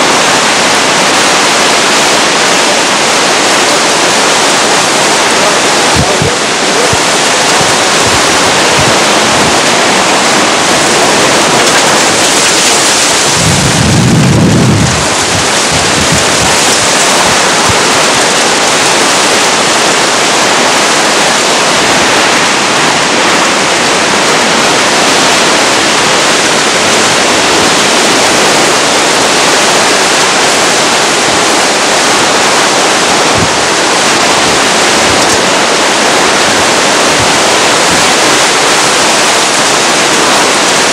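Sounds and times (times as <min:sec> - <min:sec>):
howling wind and heavy rain: 0:00.0 - 0:40.9
wind gust buffeting microphone: 0:00.0 - 0:40.9.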